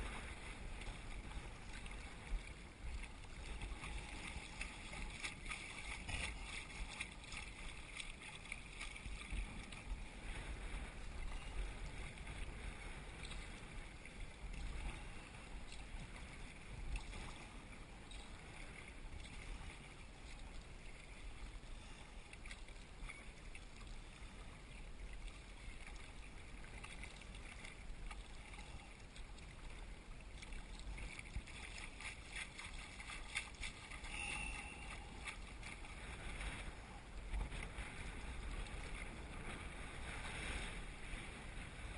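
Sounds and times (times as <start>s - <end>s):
paddles dipping in water: 0.0s - 41.9s
waves lapping against hull: 0.0s - 41.9s
wind rumble on microphone: 0.0s - 41.9s.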